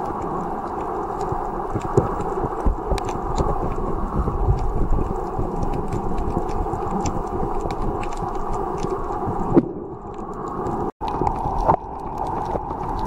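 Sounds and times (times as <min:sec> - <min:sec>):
underwater water rush: 0:00.0 - 0:13.0.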